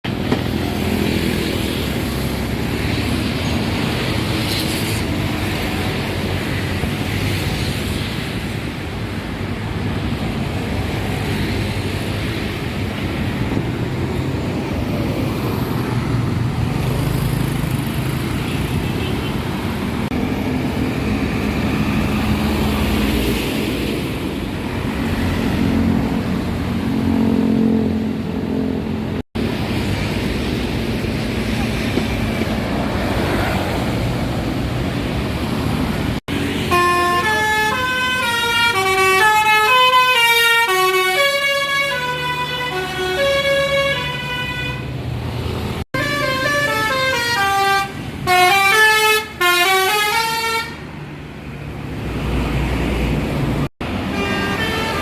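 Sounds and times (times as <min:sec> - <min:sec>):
highway traffic passing: 0:00.0 - 0:55.0.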